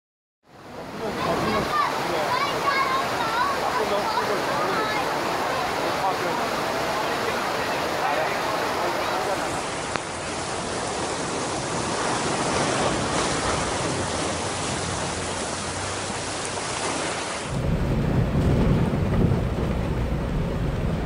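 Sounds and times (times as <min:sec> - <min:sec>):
heavy rain hiss: 0:00.5 - 0:21.0
rushing floodwater rumble: 0:00.5 - 0:21.0.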